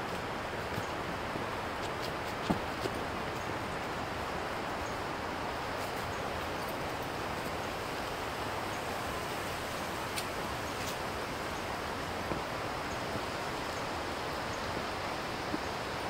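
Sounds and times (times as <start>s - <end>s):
wind rustling through trees: 0.0s - 16.0s.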